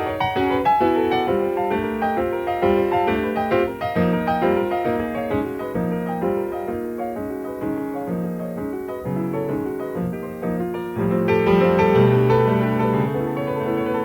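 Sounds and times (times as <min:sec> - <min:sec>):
jazz piano chords: 0:00.0 - 0:14.0.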